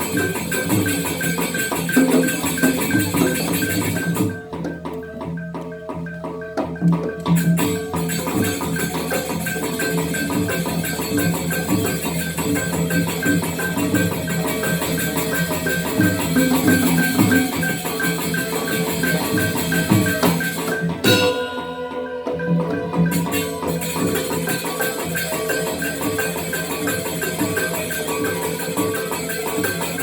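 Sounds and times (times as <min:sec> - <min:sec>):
gamelan ensemble playing: 0:00.0 - 0:30.0.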